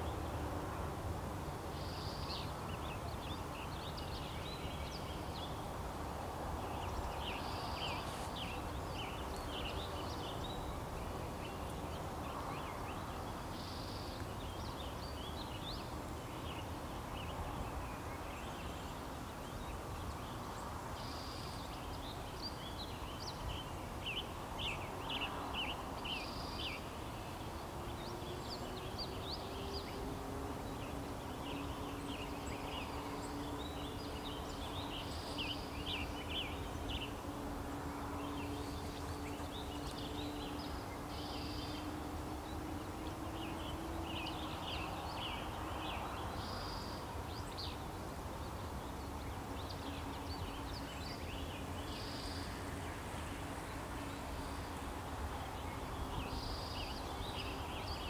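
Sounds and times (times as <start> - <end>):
faint steady drone: 0.0 - 58.0
small birds chirping: 1.5 - 58.0.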